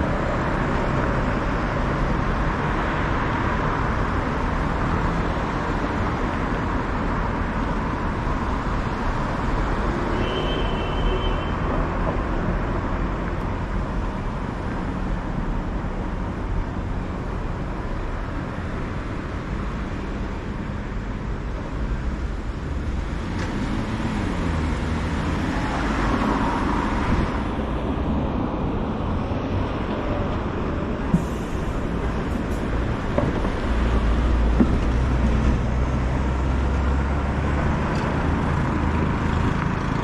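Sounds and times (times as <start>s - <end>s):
city street traffic: 0.0s - 40.0s.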